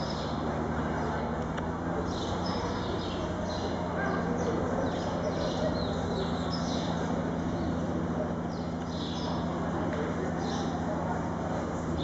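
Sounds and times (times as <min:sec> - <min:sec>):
low hum of large hall: 0:00.0 - 0:12.0.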